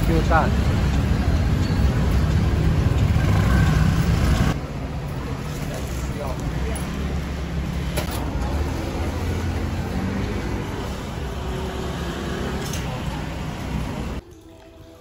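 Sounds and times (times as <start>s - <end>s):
road traffic rumble: 0.0s - 14.2s.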